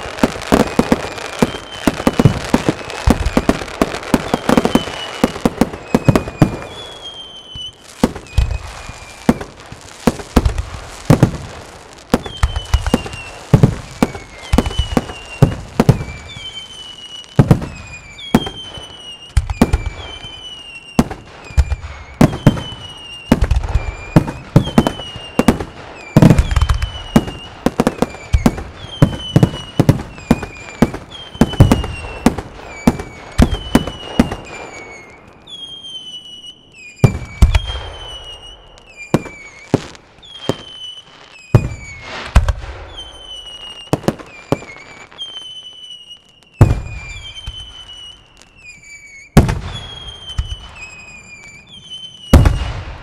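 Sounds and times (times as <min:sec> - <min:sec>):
high falling whistle: 0:00.5 - 0:09.6, 0:12.2 - 0:52.8.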